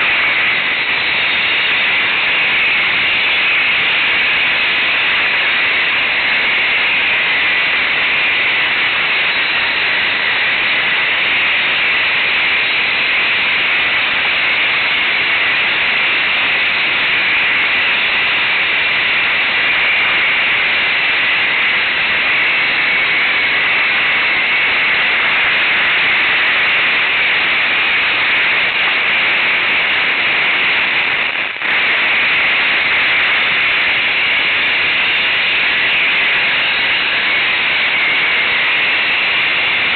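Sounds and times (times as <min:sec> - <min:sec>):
loud rushing hiss: 0:00.0 - 0:39.9.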